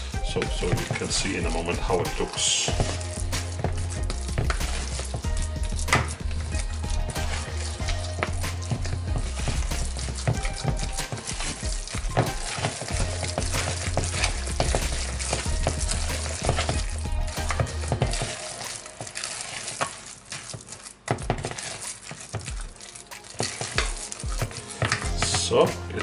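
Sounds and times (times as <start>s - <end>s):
hand squelching meat mixture: 0.0s - 26.0s.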